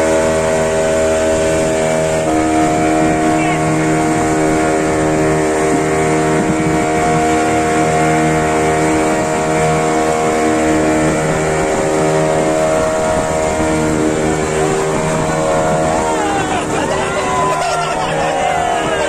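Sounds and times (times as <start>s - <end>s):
motorboat engine running: 0.0s - 19.0s
water rushing along hull: 0.0s - 19.0s.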